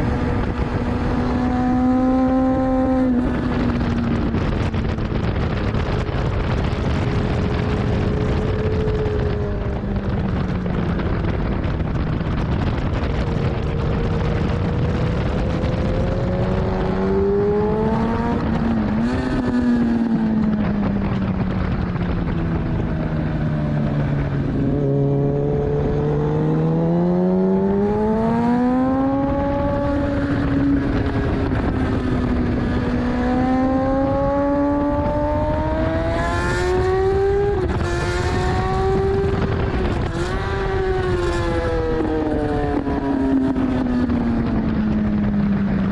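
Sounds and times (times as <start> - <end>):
motorcycle engine at speed: 0.0 - 45.9
wind noise rushing: 0.0 - 45.9.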